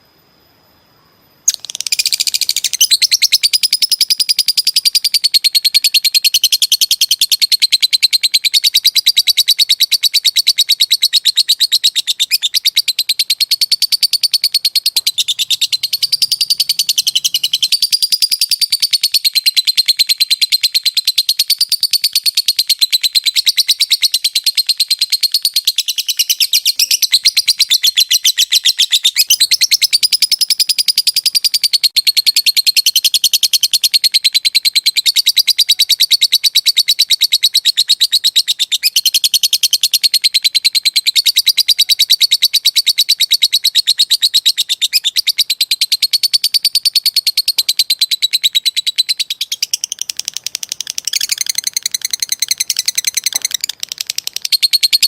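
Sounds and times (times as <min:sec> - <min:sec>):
lovebird high-pitched trill: 0:00.6 - 0:55.0.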